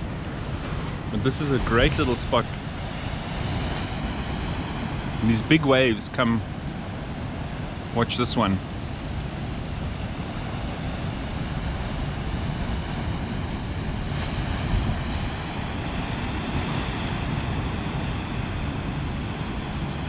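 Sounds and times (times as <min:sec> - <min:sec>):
wind buffeting microphone: 0:00.0 - 0:08.0, 0:08.6 - 0:20.0
sea waves breaking: 0:00.0 - 0:20.0.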